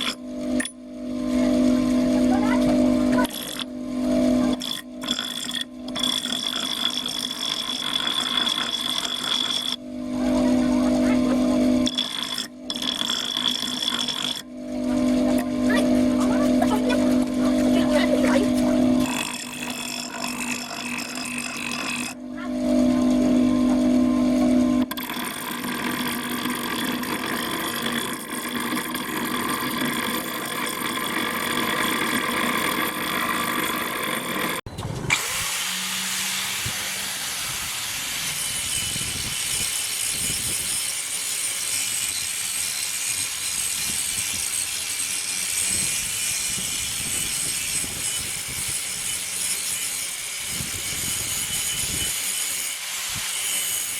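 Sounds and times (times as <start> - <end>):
abrasive scraping of rusty metal: 0.0 - 53.9
motor-driven tool humming: 0.0 - 53.9.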